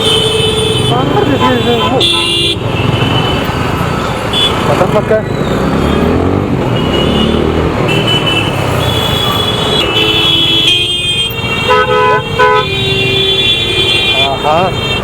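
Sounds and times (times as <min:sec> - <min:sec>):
road and wind noise: 0:00.0 - 0:15.0
vehicle horns honking: 0:00.0 - 0:15.0.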